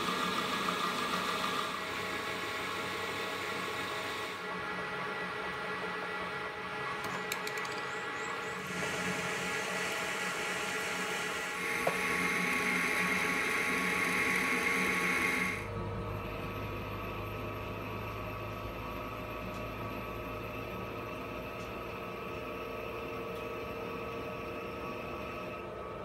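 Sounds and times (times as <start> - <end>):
lathe drilling hissing: 0.0 - 4.5, 8.3 - 25.7
lathe humming while threading: 0.0 - 26.0.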